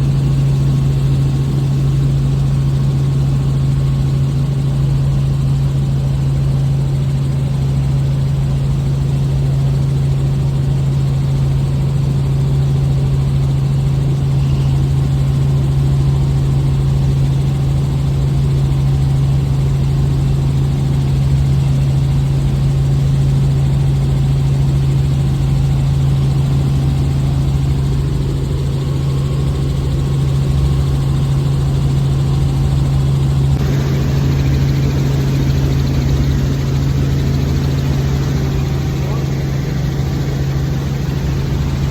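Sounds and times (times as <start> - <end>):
helicopter rotor and engine drone: 0.0 - 41.9.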